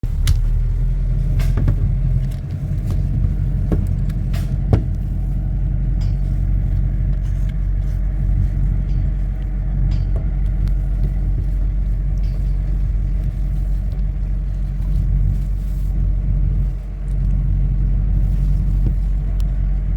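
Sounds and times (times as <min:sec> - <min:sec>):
road vehicle rumble: 0:00.0 - 0:19.9
short knocks and rattles: 0:00.1 - 0:19.9.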